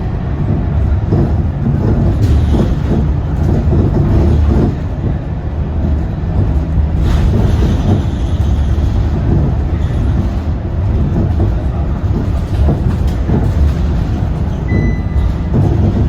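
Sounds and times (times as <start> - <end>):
bus diesel engine rumble: 0.0 - 16.0
road and body noise: 0.0 - 16.0.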